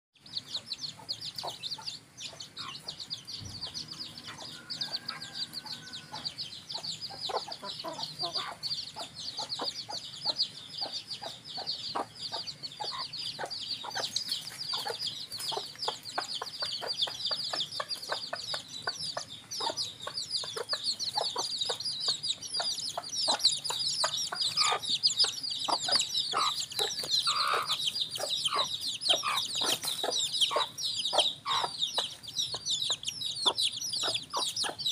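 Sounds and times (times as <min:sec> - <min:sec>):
chicks peeping: 0:00.2 - 0:34.9
hens clucking: 0:00.5 - 0:34.9.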